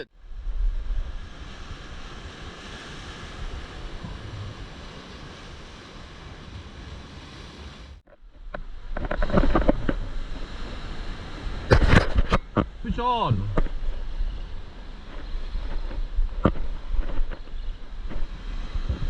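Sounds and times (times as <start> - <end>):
wind on the microphone: 0.0 - 19.0
surf breaking on a beach: 0.2 - 19.0
crackling and rumbling: 3.2 - 19.0.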